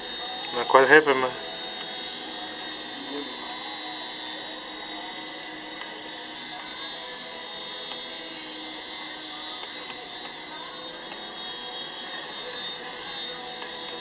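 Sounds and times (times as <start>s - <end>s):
helicopter high-pitched whine: 0.0s - 14.0s.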